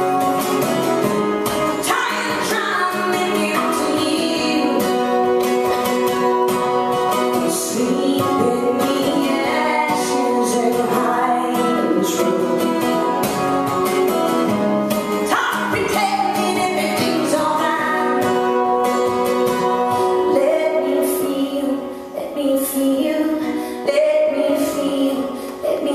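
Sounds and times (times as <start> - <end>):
acoustic guitar strumming: 0.0 - 25.9
woman singing: 1.4 - 25.9.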